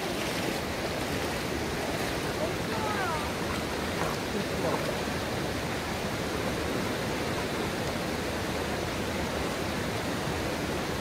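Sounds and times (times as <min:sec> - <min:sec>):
water running over rocks: 0:00.0 - 0:11.0.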